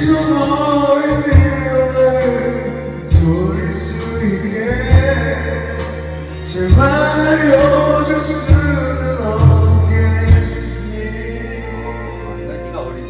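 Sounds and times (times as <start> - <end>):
man singing: 0.0 - 13.0
pop ballad karaoke backing track: 0.0 - 13.0.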